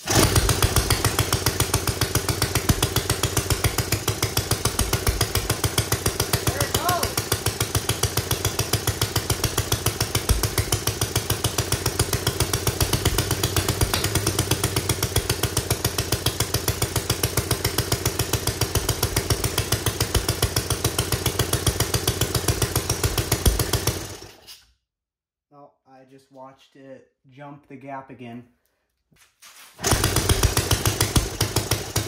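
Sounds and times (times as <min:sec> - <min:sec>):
single-cylinder engine running: 0:00.0 - 0:24.4, 0:29.8 - 0:32.0.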